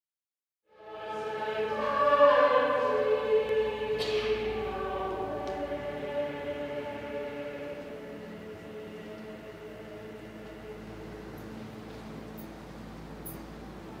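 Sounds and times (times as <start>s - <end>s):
choir singing held chords: 0.7s - 14.0s.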